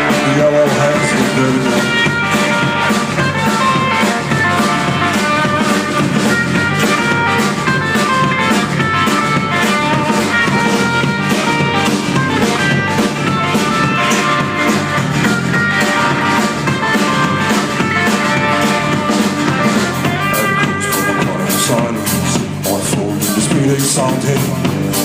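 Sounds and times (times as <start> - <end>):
guitars playing: 0.0 - 25.0
steady drum beat: 0.0 - 25.0.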